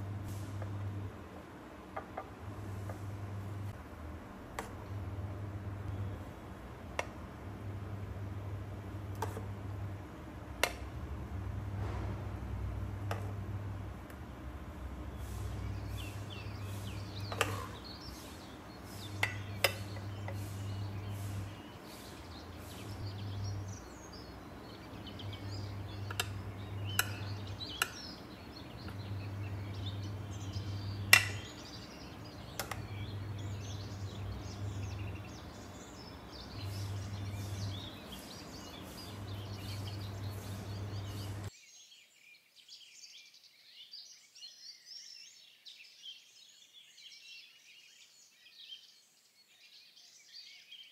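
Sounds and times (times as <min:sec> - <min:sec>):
birds chirping: 0:00.0 - 0:01.3, 0:04.5 - 0:50.9
low hum switching on and off: 0:00.0 - 0:01.3, 0:01.9 - 0:41.5.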